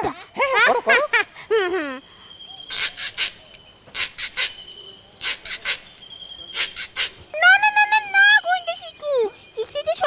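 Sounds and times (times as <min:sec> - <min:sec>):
high squeaky chirps: 0:00.6 - 0:10.0
high-pitched insect-like drone: 0:00.6 - 0:10.0.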